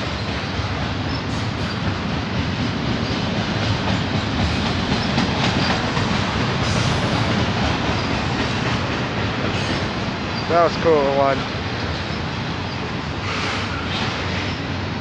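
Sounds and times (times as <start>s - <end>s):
steel wheels running on rails: 0.0s - 15.0s.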